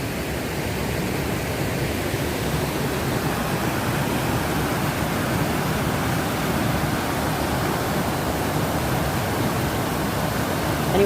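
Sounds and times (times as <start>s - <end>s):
roar of falling water: 0.0s - 11.0s.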